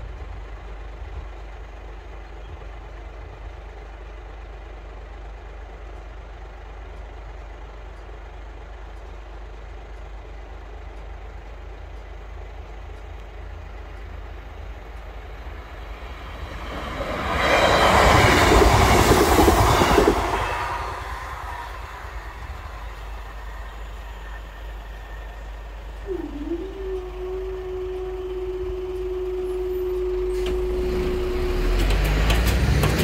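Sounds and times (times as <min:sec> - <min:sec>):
diesel train passing close: 0:00.0 - 0:33.0
vehicles idling rumble: 0:00.0 - 0:33.0.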